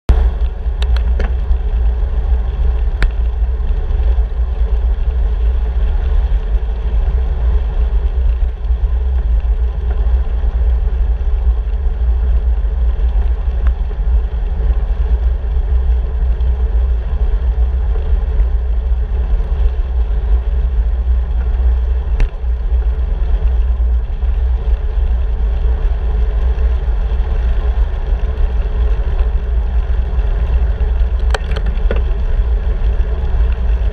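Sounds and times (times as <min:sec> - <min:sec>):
road noise: 0:00.0 - 0:33.9
wind buffeting microphone: 0:00.1 - 0:33.9.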